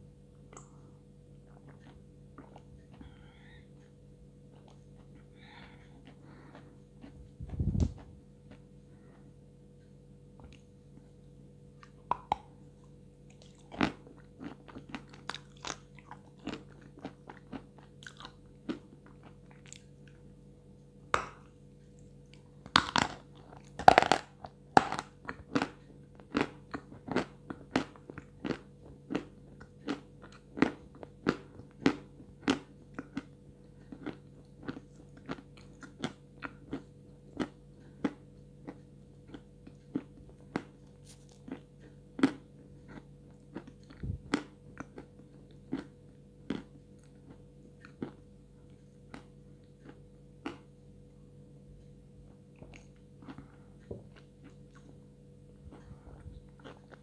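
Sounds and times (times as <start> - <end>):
crunching and chewing chalk: 0.4 - 9.4, 10.4 - 57.0.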